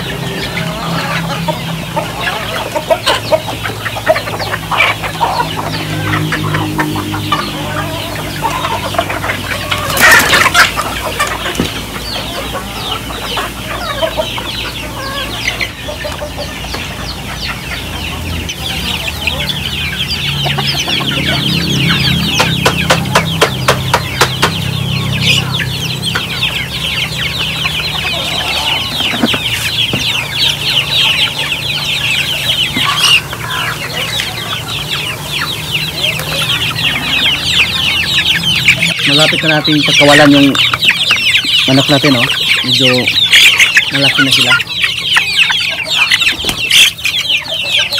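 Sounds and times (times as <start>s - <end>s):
chickens clucking: 0.0s - 47.9s
chicks peeping: 0.0s - 47.9s.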